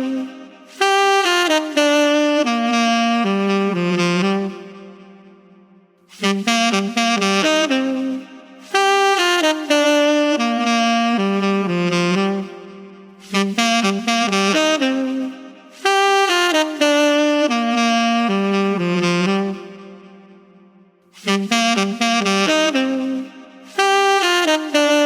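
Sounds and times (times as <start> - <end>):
solo saxophone melody: 0.0 - 25.0.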